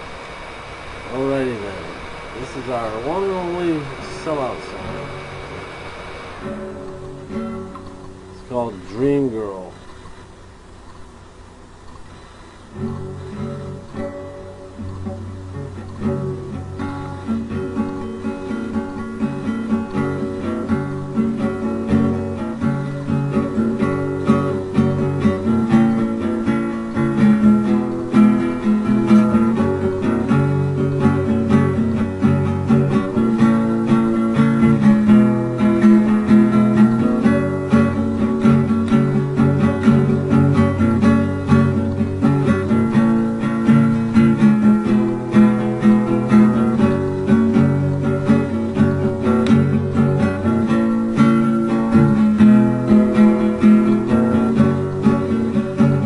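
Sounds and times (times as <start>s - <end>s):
acoustic guitar strumming: 0.0s - 10.2s, 12.1s - 56.0s.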